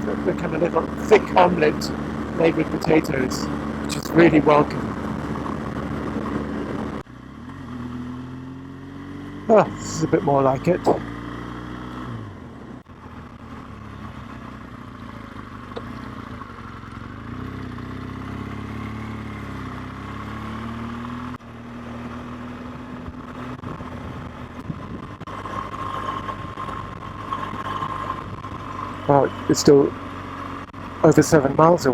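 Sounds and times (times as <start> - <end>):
motorcycle engine running: 0.0 - 31.9
wind and road noise: 0.0 - 31.9.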